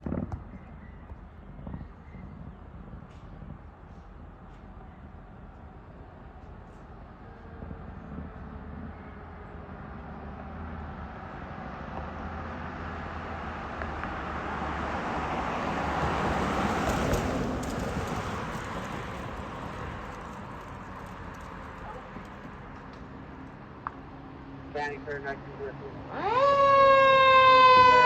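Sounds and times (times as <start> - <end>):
fire engine driving past: 1.2 - 28.0.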